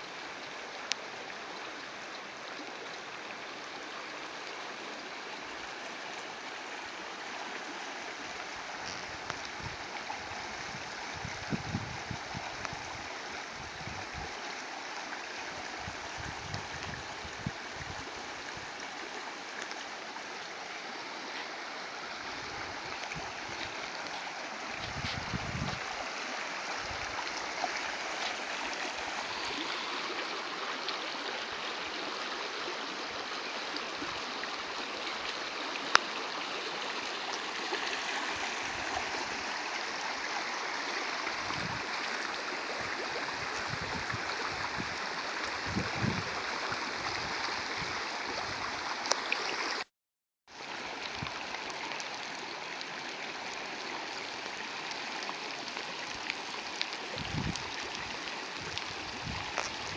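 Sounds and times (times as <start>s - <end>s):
rain downpour: 0.0s - 49.9s, 50.5s - 59.9s
running water: 0.0s - 49.9s, 50.5s - 59.9s.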